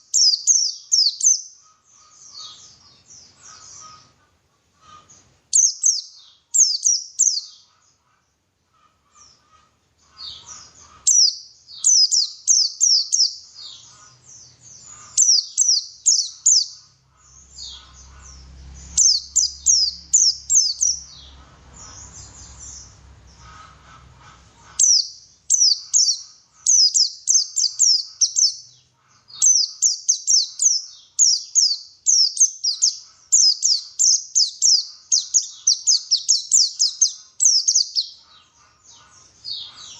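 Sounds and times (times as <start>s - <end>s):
bird song with falling chirps: 0.0s - 4.2s, 4.9s - 8.4s, 9.1s - 23.5s, 24.7s - 39.9s.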